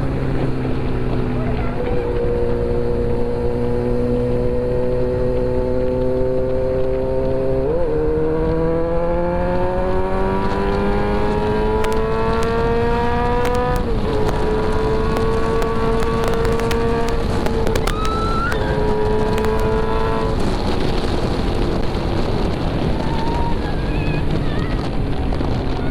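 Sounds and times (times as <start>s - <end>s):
motorcycle engine accelerating: 0.0s - 25.9s
wind rushing over microphone: 0.0s - 25.9s.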